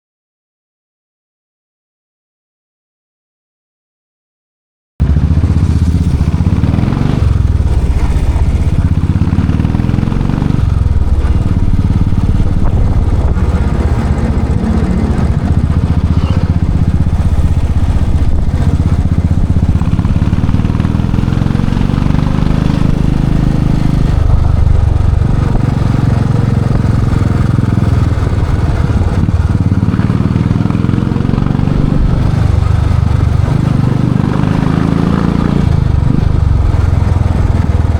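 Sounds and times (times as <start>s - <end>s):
motorcycle engine running loud: 5.0s - 37.9s.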